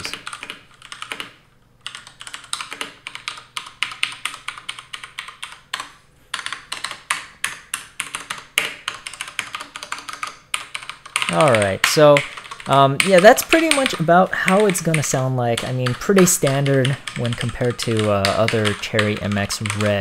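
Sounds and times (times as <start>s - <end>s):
mechanical keyboard typing: 0.0s - 20.0s.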